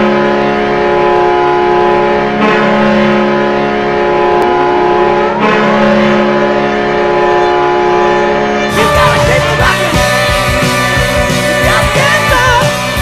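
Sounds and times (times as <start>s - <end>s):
goal horn blast: 0.0s - 11.0s.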